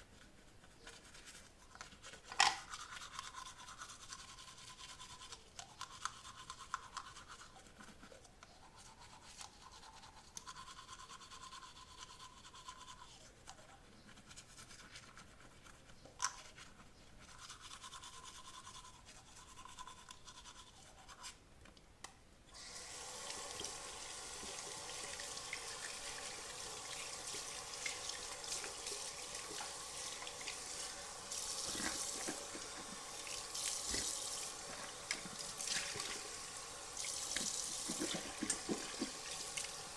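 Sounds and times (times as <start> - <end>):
toothbrush scrubbing teeth: 0.0 - 21.4, 23.2 - 39.9.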